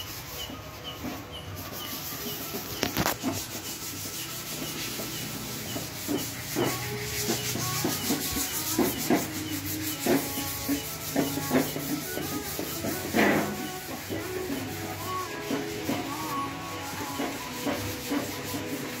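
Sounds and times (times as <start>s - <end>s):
sandpaper rasping on wood: 0.0s - 19.0s.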